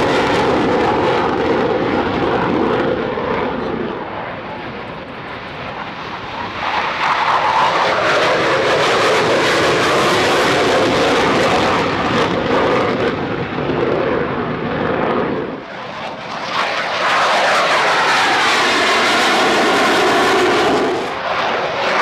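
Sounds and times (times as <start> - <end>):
jet taking off on afterburner: 0.0 - 22.0.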